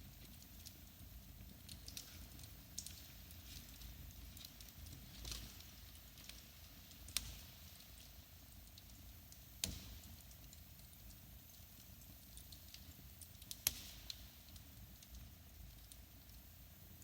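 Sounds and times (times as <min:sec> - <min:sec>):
fire popping: 0:00.0 - 0:17.0
wood fire crackling: 0:00.0 - 0:17.0.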